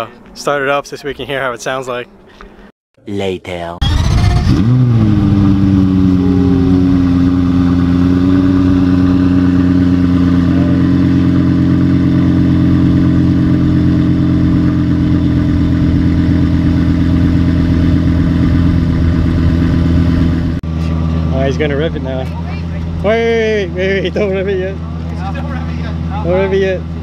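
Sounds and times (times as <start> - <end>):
car engine idling: 3.8 - 27.0.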